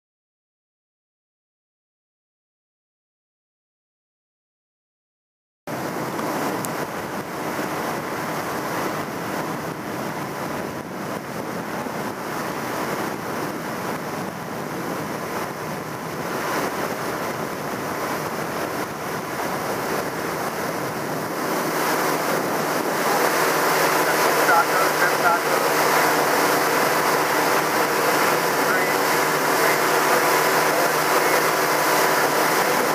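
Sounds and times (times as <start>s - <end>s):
outboard motor running: 5.7s - 32.9s
rushing water and spray: 5.7s - 32.9s
wind on microphone: 5.7s - 32.9s.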